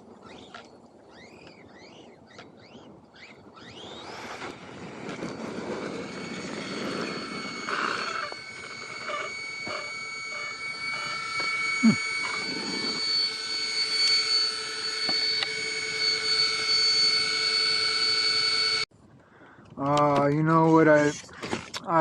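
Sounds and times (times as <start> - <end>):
electric motor whining: 1.1 - 18.9.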